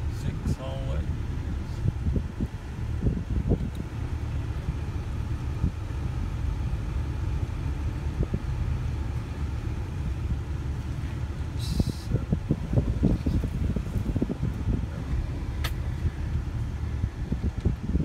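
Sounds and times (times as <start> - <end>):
car rumble from inside cabin: 0.0 - 18.0.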